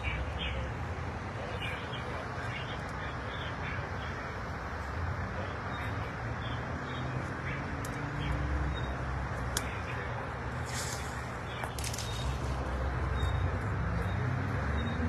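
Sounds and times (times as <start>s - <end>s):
parkway traffic noise: 0.0s - 15.0s.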